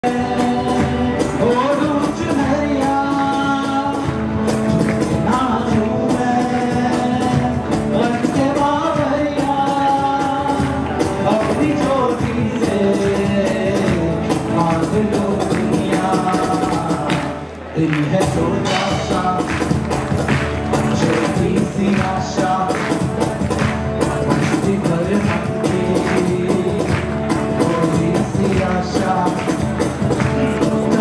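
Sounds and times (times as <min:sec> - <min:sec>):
drums and cymbal beat: 0:00.0 - 0:17.3, 0:18.1 - 0:31.0
acoustic and electric guitars: 0:00.0 - 0:31.0.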